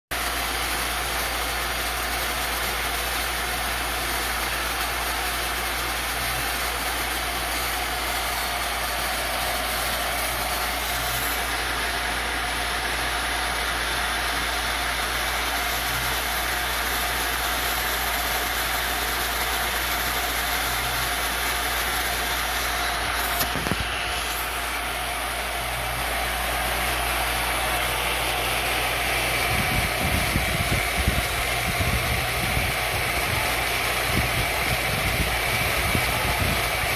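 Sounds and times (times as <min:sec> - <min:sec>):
milling machine motor running: 0:00.1 - 0:36.9
end mill cutting wood: 0:00.2 - 0:36.9.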